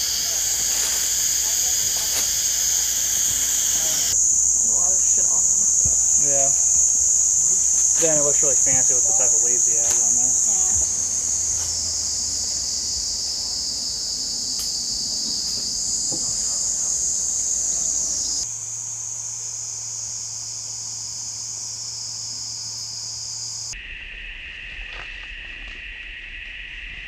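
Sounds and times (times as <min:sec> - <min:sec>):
jungle insects chorus: 0:00.0 - 0:27.0.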